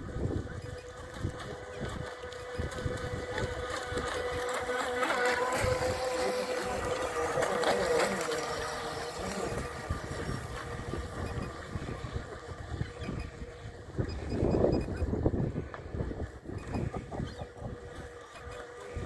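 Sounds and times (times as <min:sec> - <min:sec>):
model boat motors whining: 0:00.0 - 0:19.0.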